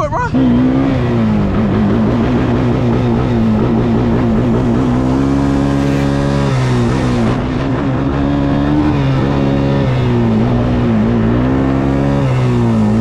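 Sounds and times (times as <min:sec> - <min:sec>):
dirt bike engine revving: 0:00.0 - 0:13.0
low hum: 0:00.6 - 0:11.4.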